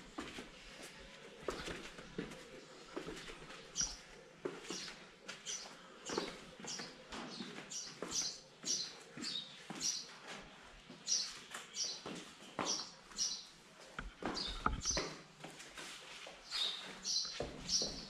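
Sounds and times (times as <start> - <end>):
squeaky footsteps on laminate floor: 0.2 - 18.0.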